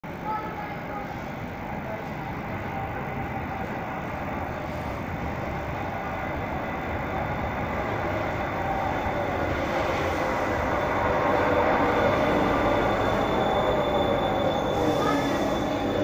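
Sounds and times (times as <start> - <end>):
electric train running noise: 0.2 - 16.0.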